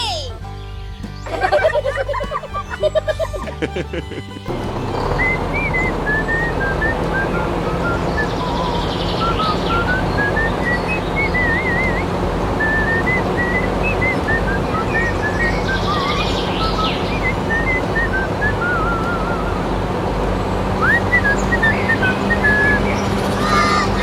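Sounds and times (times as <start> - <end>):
whistled tune with trills: 0.0 - 24.0.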